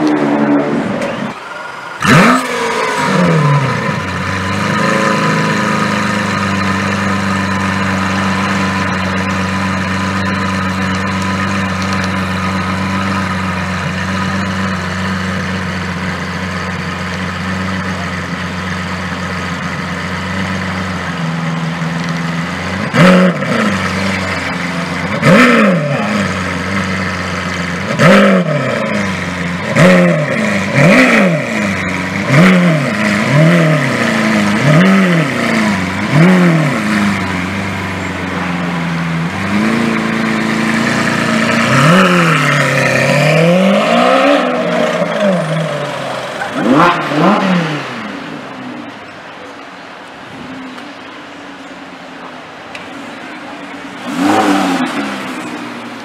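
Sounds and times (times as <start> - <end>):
car engine idling: 0.0 - 56.0
engine throttle blips: 0.0 - 56.0.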